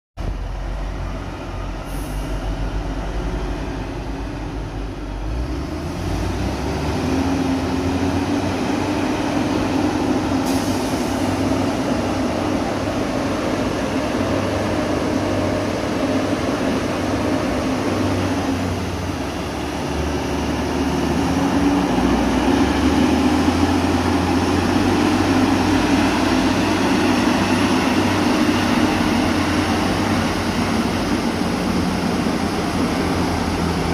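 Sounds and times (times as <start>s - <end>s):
heavy diesel engines droning: 0.2s - 33.9s.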